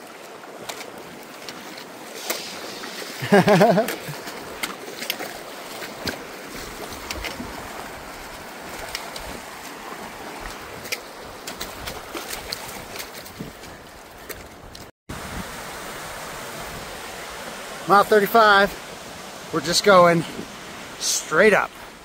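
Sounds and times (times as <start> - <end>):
creek water rushing: 0.0 - 22.0
feet splashing through a creek: 0.0 - 22.0.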